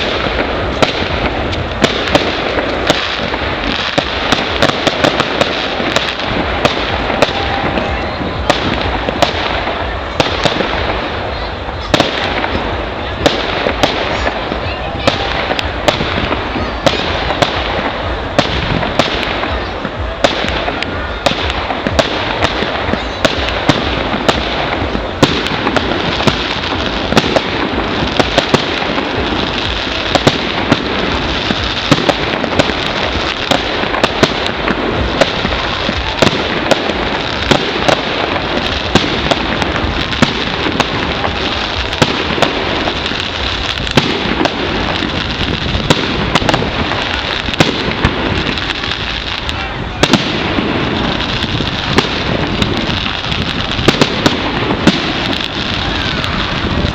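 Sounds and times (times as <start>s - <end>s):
fireworks bangs: 0.0s - 56.9s
fireworks crackling: 0.0s - 56.9s.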